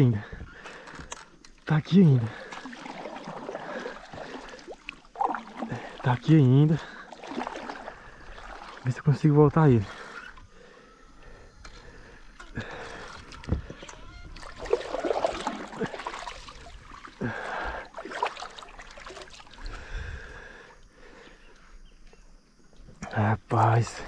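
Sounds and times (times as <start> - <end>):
water sloshing around kayak: 0.4 - 20.5.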